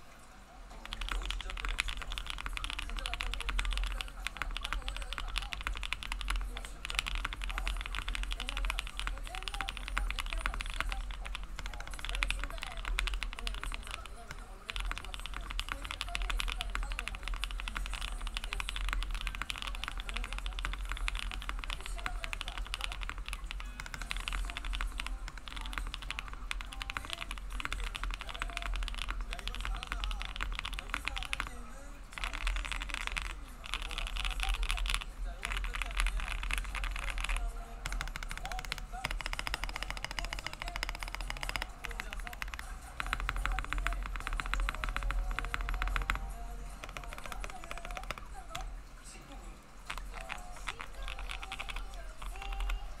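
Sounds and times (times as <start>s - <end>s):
fast mechanical keyboard typing: 0.7s - 53.0s.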